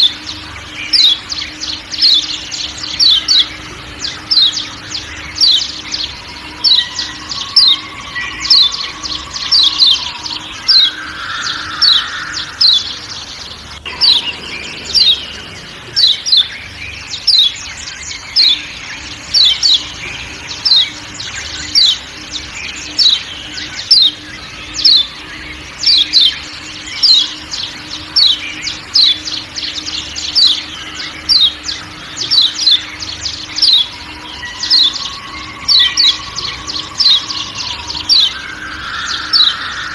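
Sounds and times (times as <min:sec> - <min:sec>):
low bird whistles: 0:00.0 - 0:39.9.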